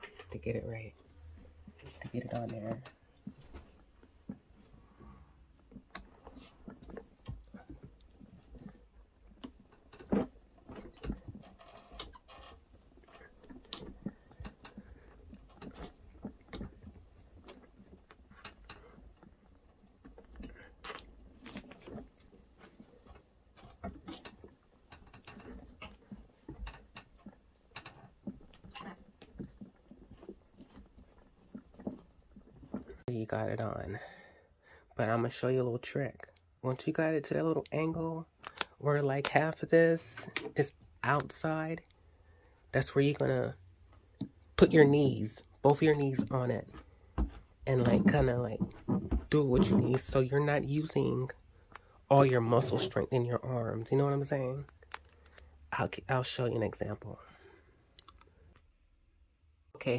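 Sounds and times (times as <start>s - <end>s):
rubber tire rubbing and creaking: 0.0s - 33.8s, 42.8s - 57.5s.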